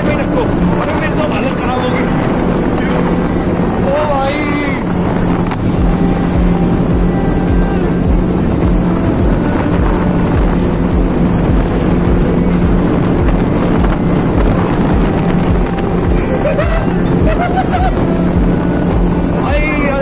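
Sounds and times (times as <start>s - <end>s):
speedboat engine humming: 0.0s - 20.0s
wind buffeting microphone: 0.0s - 20.0s.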